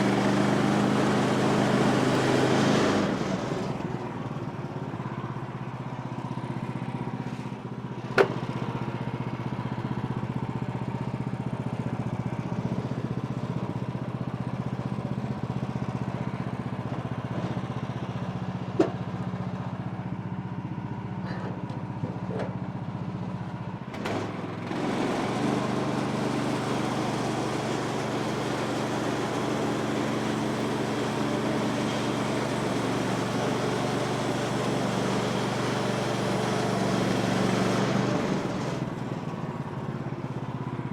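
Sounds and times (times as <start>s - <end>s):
sawmill gas engine running: 0.0s - 40.9s.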